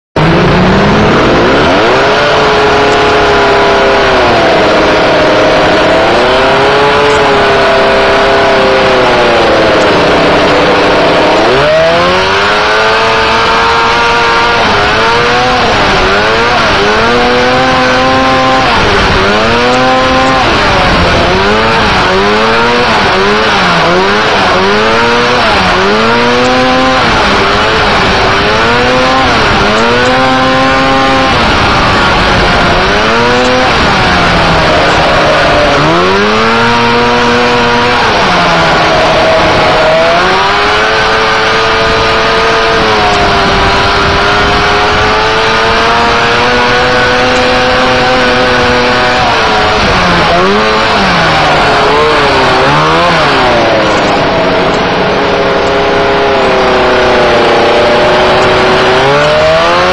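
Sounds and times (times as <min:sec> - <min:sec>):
dune buggy engine revving: 0:00.0 - 0:59.9
constant rushing noise: 0:00.1 - 0:59.9.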